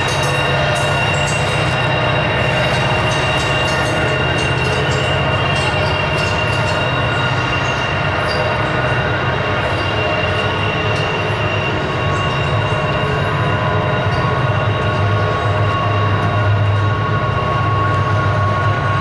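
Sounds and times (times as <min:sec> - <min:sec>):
freight train rumbling: 0:00.0 - 0:19.0
high-pitched wheel squeal: 0:00.0 - 0:19.0.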